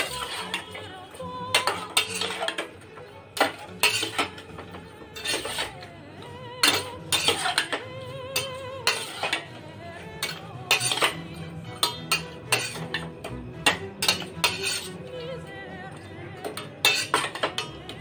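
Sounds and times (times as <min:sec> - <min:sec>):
spatula scraping a metal pot: 0:00.0 - 0:15.2, 0:15.9 - 0:18.0
background music: 0:00.0 - 0:18.0.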